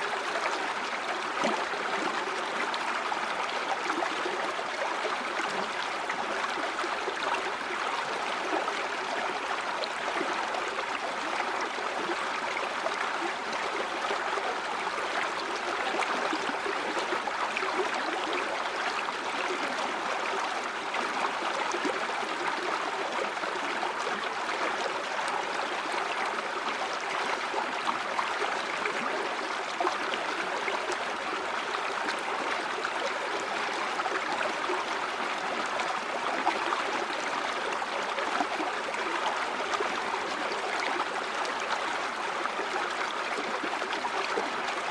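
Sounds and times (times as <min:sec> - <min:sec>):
stream flowing over rocks: 0:00.0 - 0:44.9.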